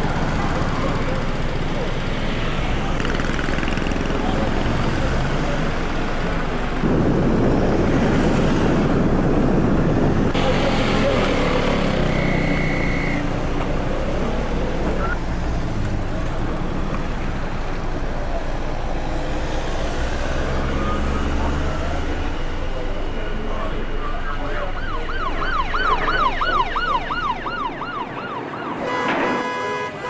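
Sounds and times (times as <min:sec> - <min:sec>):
vehicle engines in traffic: 0:00.0 - 0:30.0.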